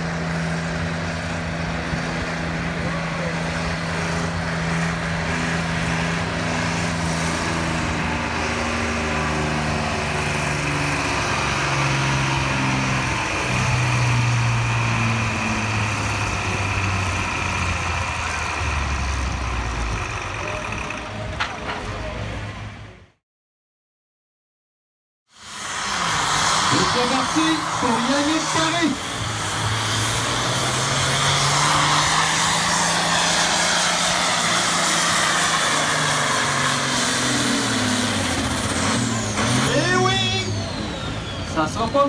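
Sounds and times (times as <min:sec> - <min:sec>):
tractor engine under heavy load: 0:00.0 - 0:23.2, 0:25.3 - 0:42.0.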